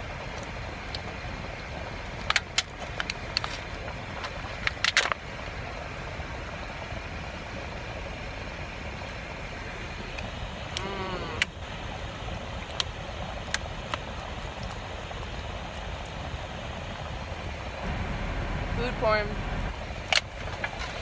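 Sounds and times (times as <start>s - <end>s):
low car interior rumble: 0.0s - 21.0s.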